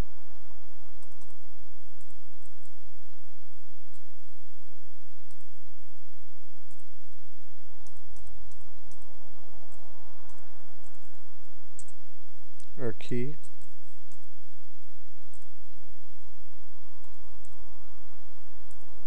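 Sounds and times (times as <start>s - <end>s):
steady hiss and low hum: 0.0s - 19.0s.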